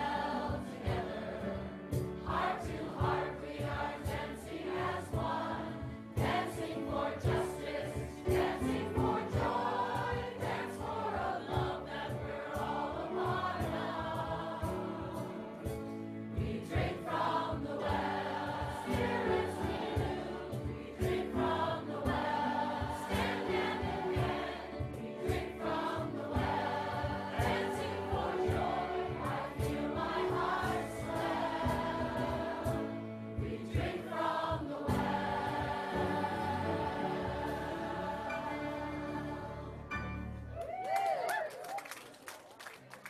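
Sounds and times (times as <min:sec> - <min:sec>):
choir singing a hymn: 0:00.0 - 0:40.3.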